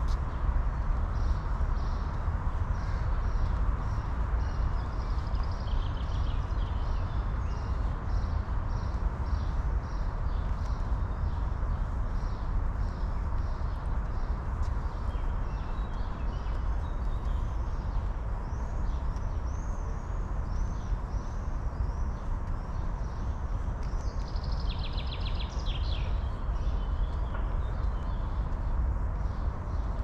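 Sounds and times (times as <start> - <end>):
songbirds chirping: 0.0 - 30.0
steady low rumble: 0.0 - 30.0.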